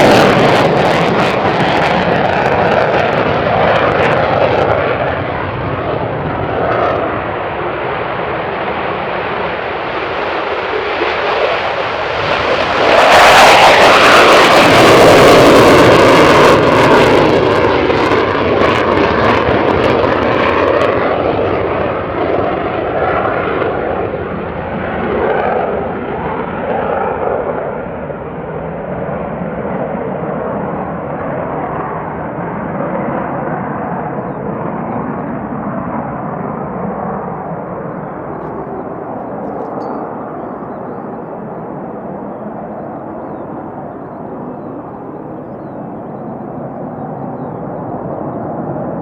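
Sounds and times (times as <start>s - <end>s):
jet engines roaring with crackling: 0.0s - 49.0s.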